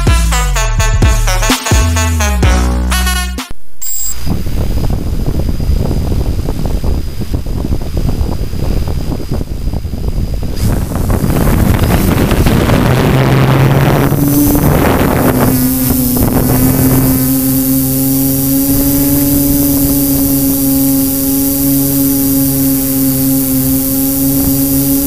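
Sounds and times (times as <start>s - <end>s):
drone propellers humming: 3.9s - 25.0s
wind rushing on microphone: 4.1s - 25.0s.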